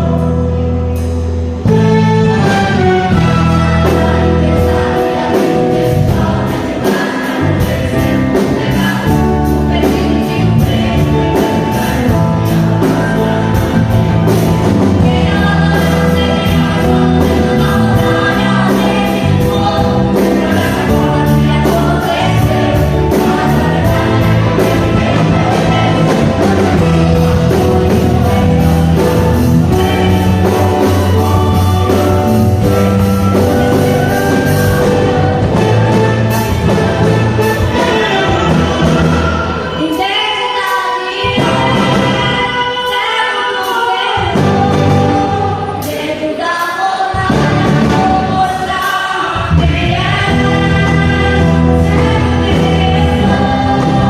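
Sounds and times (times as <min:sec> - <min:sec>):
band with steady beat: 0:00.0 - 0:46.4
choir singing gospel music: 0:00.0 - 0:54.0.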